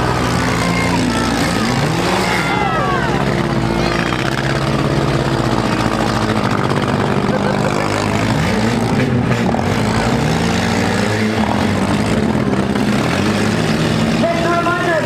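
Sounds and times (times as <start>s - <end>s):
car engines revving: 0.0s - 15.0s
cars crashing: 0.0s - 15.0s.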